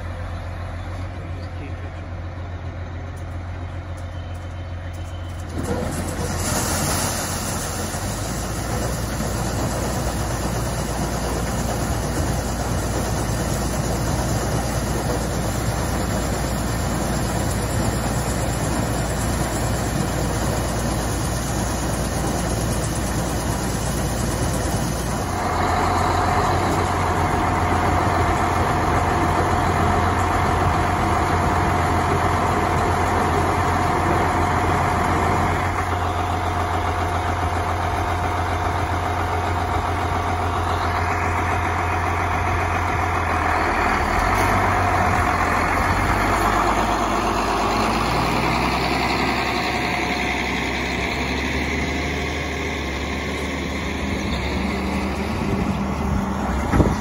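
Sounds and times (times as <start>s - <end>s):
tractor diesel engine running: 0.0s - 57.0s
grain conveyor unloading corn: 3.1s - 57.0s.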